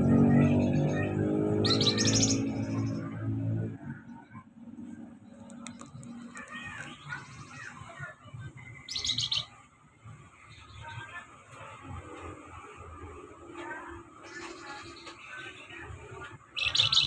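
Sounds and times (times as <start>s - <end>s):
songbird chirping: 0.0s - 11.2s, 14.1s - 17.0s.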